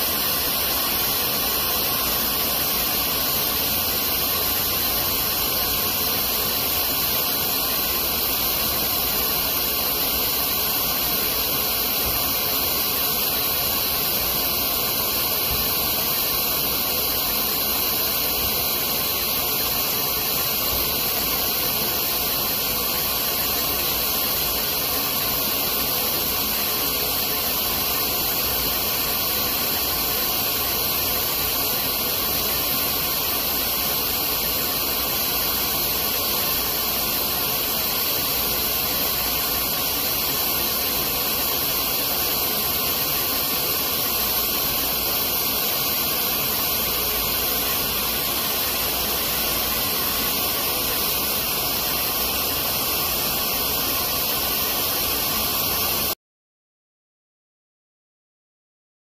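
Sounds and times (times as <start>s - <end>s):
laser engraver hissing: 0.0s - 56.2s.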